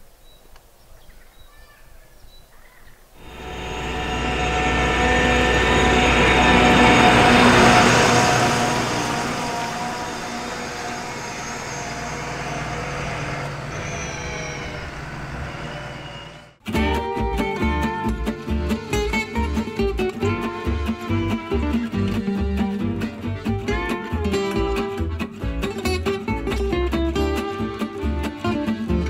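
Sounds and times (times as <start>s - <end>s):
combine harvester driving past: 3.2s - 29.0s.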